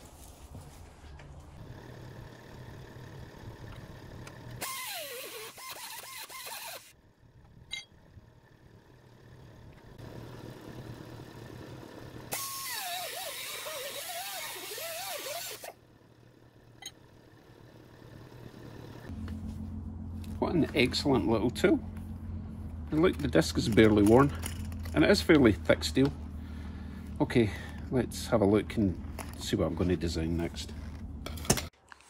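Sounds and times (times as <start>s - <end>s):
steady low hum: 0.0s - 4.7s, 6.9s - 12.4s, 15.6s - 31.7s
cut-off disc whining through steel: 1.1s - 31.7s.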